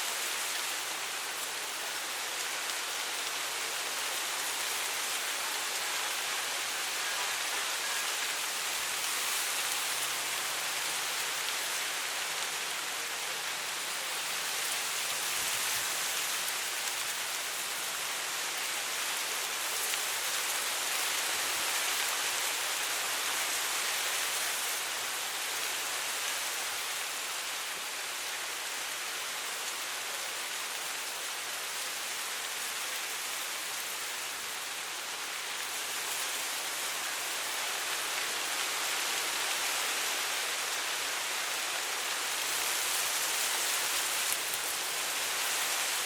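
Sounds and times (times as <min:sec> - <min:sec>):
wind rustling dry grass: 0:00.0 - 0:46.0.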